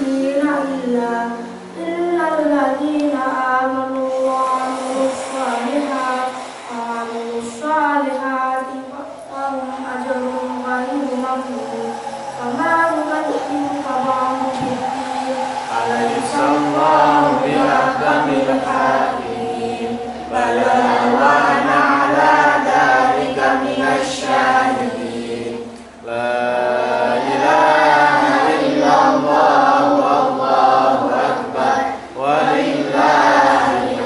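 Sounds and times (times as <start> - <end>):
boy chanting melodically: 0.0 - 34.0.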